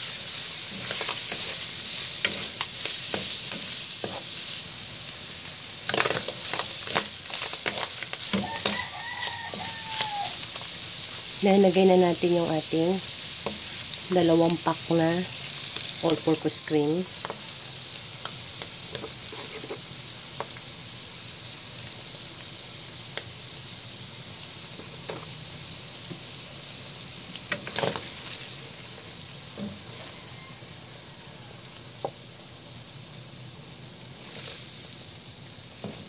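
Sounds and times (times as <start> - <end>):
food sizzling in a wok: 0.0 - 36.0.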